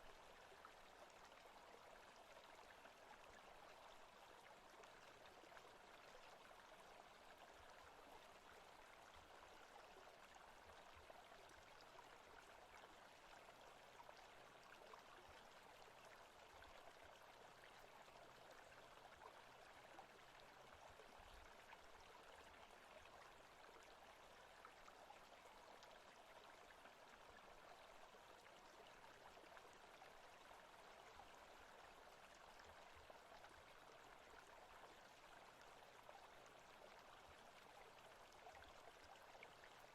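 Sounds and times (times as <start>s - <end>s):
running stream water: 0.0s - 39.9s.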